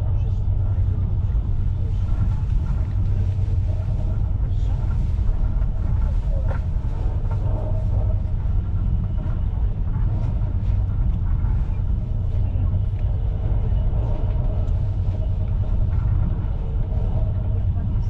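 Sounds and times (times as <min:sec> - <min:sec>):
train carriage rattling: 0:00.0 - 0:18.0
train wheels running on rails: 0:00.0 - 0:18.0.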